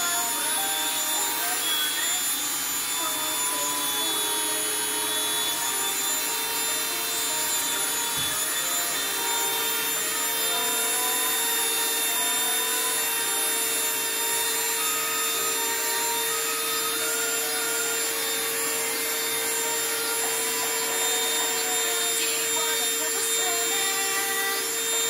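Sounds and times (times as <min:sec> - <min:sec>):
electric drill grinding glass: 0:00.0 - 0:25.0.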